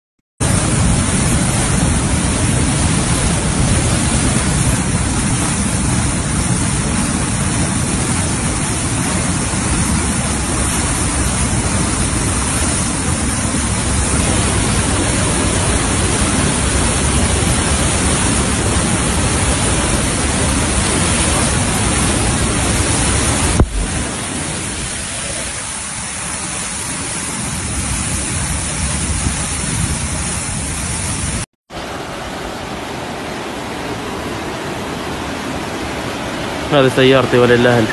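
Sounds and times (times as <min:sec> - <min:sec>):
flood water rushing: 0:00.4 - 0:37.9.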